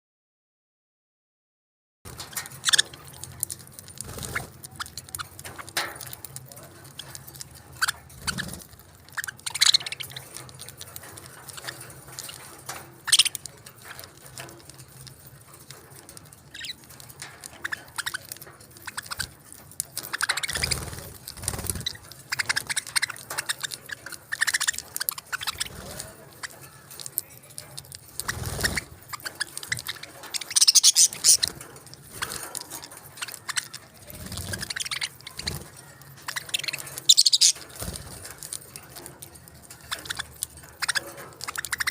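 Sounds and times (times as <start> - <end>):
parrots chirping: 2.1 - 41.9.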